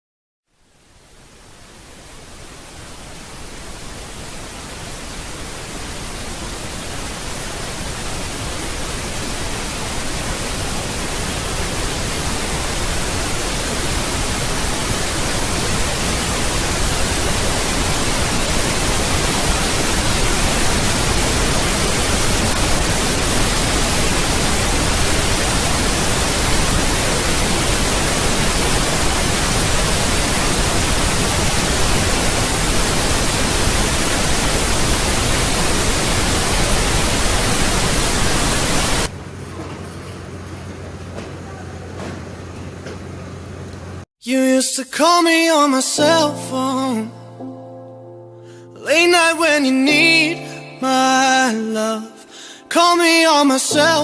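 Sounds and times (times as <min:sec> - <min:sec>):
pink noise over loudspeakers: 0:00.5 - 0:42.9, 0:43.7 - 0:47.5, 0:48.5 - 0:54.0.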